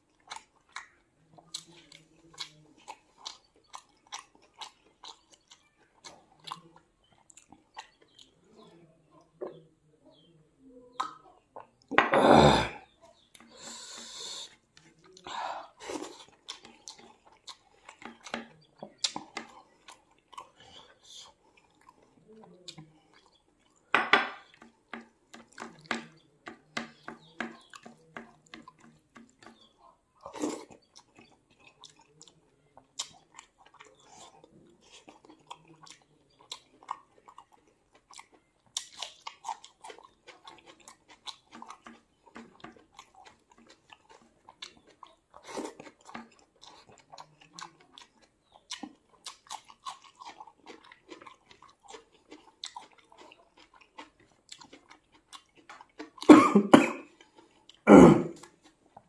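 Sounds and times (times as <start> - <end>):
wet chewing and mouth smacks: 0.0 - 10.3, 12.9 - 56.3, 57.0 - 59.0.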